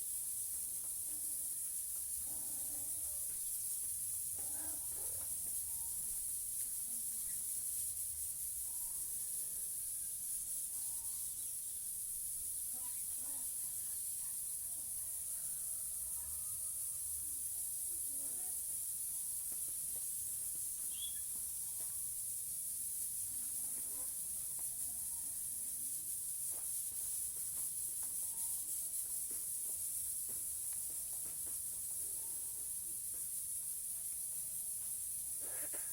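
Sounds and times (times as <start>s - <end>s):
high-pitched hiss: 0.0s - 35.9s.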